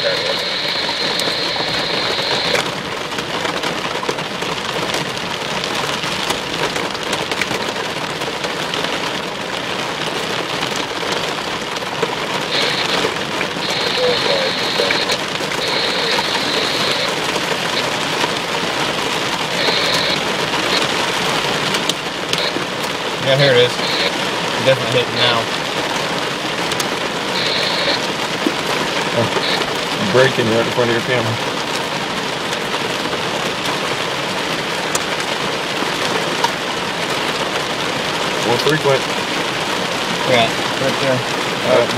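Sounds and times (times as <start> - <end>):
heavy rain on car roof: 0.0 - 41.9.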